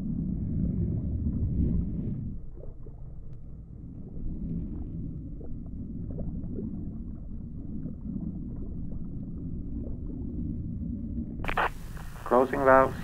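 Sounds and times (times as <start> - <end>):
faint bubbling: 0.0 - 13.0
underwater low rumble: 0.0 - 13.0.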